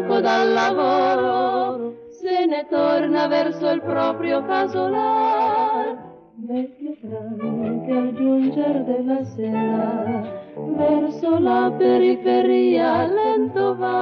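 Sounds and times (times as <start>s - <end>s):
women singing in harmony: 0.0s - 14.0s.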